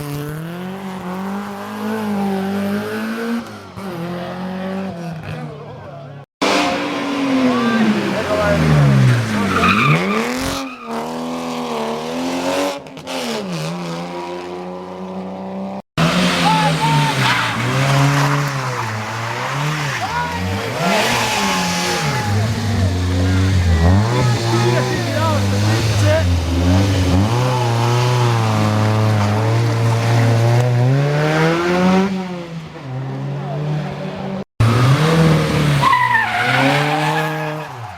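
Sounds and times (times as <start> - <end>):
rally car engine pulling hard: 6.4 - 37.9.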